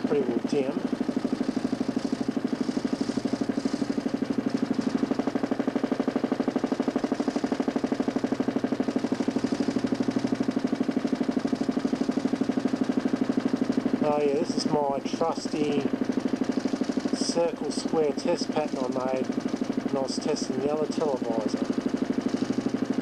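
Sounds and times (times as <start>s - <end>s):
electric motor spinning disc: 0.0s - 23.0s.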